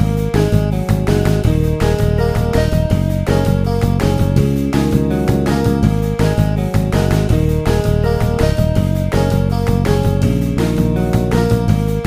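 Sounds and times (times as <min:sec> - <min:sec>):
music with plucked guitar-like notes: 0:00.0 - 0:12.0.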